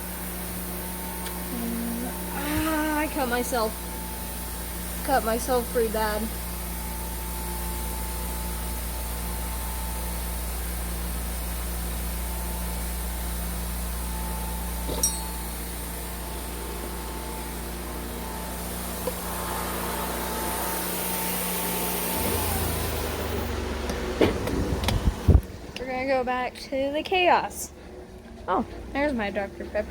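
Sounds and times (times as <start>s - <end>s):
machine humming: 0.0s - 29.9s.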